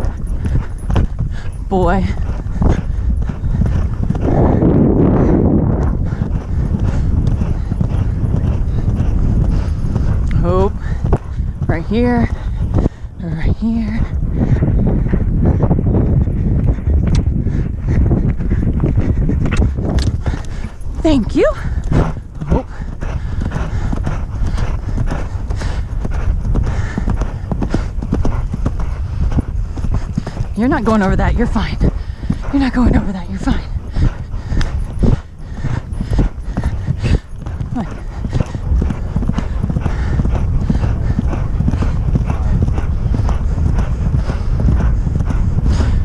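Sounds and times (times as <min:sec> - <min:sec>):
horse hoofbeats on dirt: 0:00.0 - 0:46.0
wind rumble on microphone: 0:00.0 - 0:46.0.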